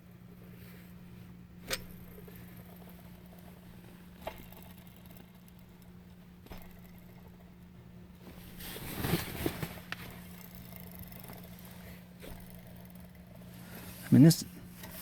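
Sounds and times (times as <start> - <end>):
bearing turning with low hum: 0.0 - 15.0.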